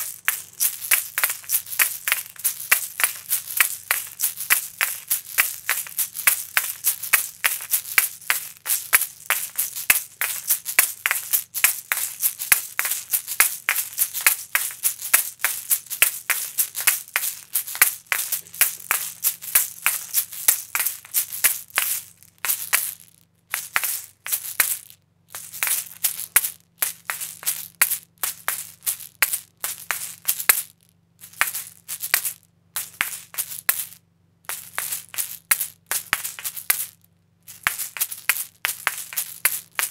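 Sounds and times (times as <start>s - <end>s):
shakers clacking and rattling: 0.0s - 39.9s.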